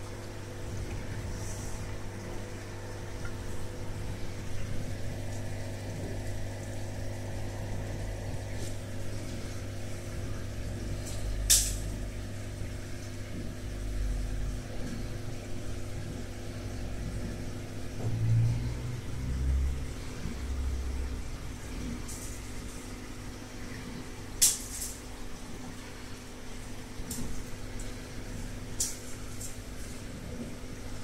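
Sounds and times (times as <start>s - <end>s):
electrical equipment humming: 0.0s - 31.0s.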